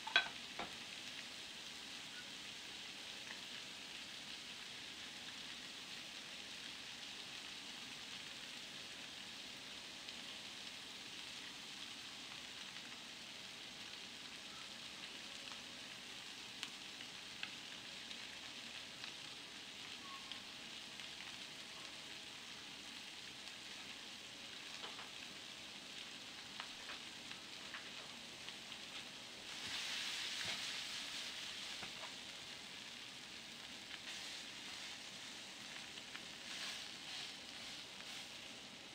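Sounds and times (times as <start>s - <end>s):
faint hiss: 0.0s - 38.9s.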